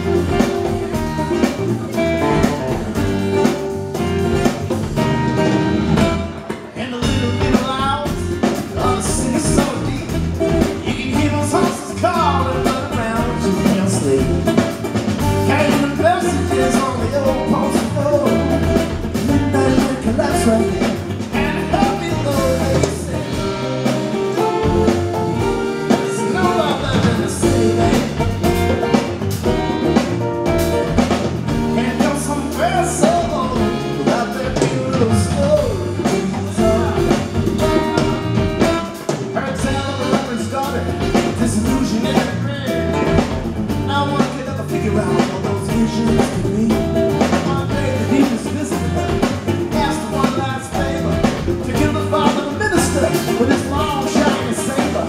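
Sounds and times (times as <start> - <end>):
electric bass guitar: 0.0 - 55.0
man singing: 6.0 - 29.2, 31.4 - 55.0.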